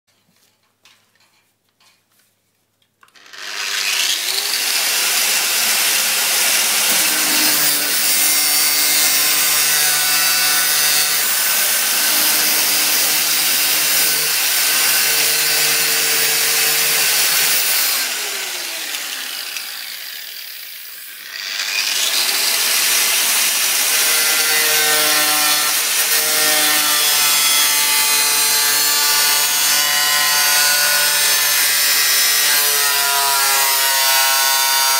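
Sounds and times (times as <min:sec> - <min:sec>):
angle grinder grinding metal: 0:03.0 - 0:34.9.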